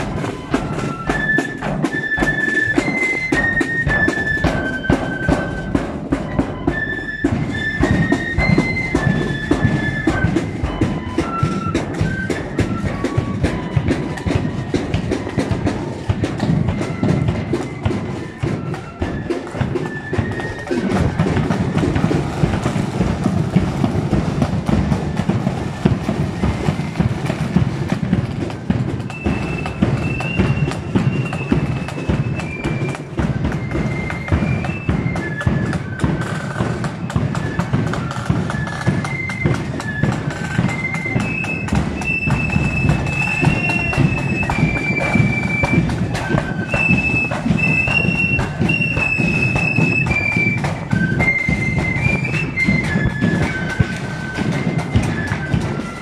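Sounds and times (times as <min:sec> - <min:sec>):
high flute melody: 0:00.0 - 0:56.0
side drums and bass drum: 0:00.0 - 0:56.0.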